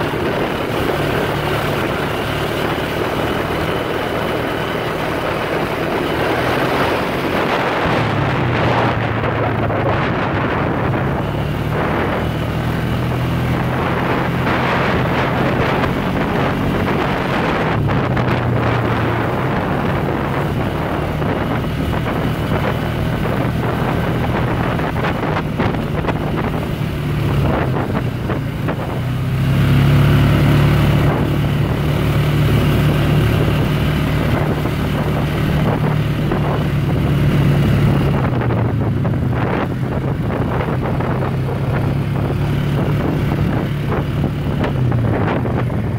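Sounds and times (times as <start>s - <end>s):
atv engine running: 0.0s - 45.9s
wind buffeting microphone: 0.0s - 45.9s.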